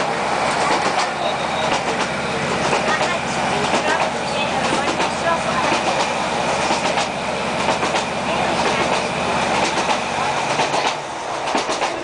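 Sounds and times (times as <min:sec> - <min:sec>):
diesel engine drone: 0:00.0 - 0:11.4
train wheels rolling: 0:00.0 - 0:12.0
wheels clicking over rail joints: 0:00.0 - 0:12.0.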